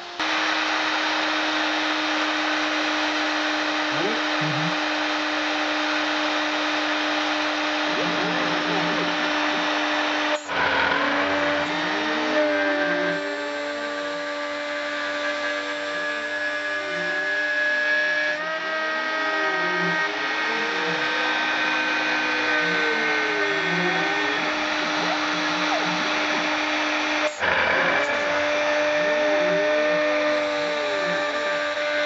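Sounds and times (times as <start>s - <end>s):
drive motors rising and falling: 0.0s - 32.0s
milling machine spindle whine: 0.0s - 32.0s.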